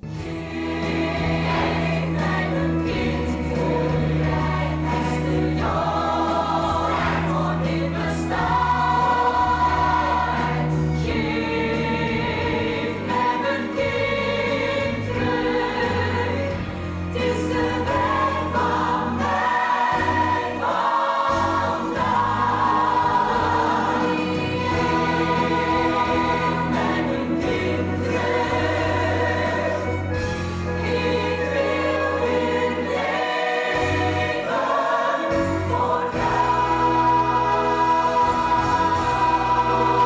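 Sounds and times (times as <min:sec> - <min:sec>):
choir singing with orchestra: 0:00.0 - 0:40.0.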